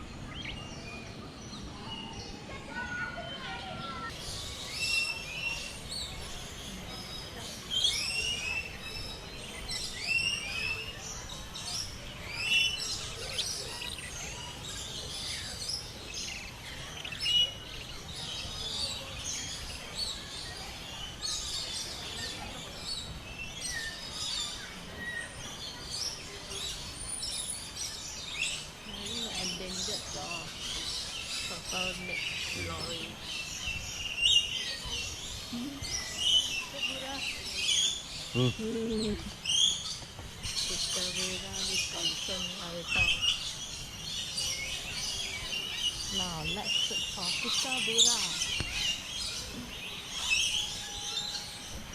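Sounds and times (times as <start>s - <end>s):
birds chirping and whistling: 0.2s - 51.9s.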